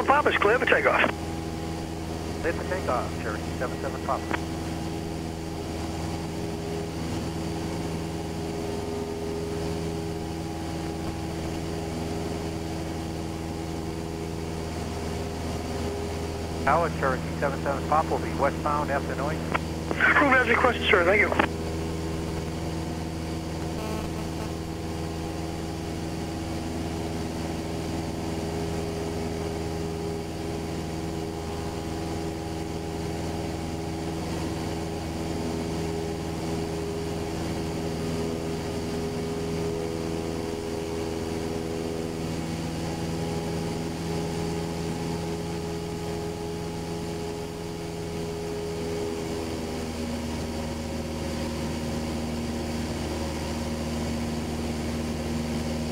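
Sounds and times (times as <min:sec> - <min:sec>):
light aircraft engine drone: 0:00.0 - 0:55.9.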